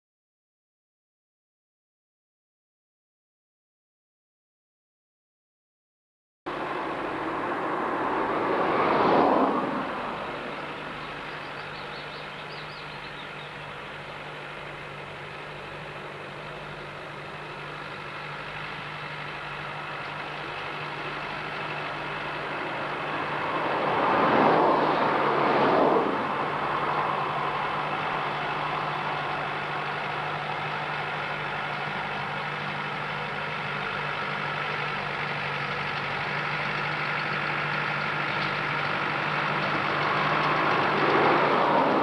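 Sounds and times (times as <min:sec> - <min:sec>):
tractor engine running under load: 0:06.5 - 0:42.0.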